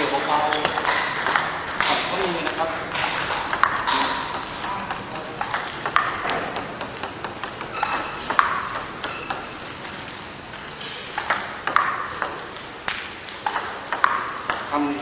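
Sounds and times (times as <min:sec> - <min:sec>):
ball bouncing on table: 0:00.0 - 0:15.0
table tennis ball hitting bats: 0:00.0 - 0:15.0.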